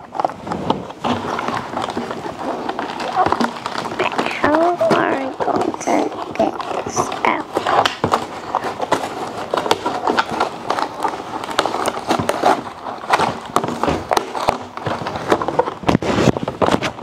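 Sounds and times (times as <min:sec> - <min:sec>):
knife cutting cardboard packaging: 0:00.0 - 0:17.0.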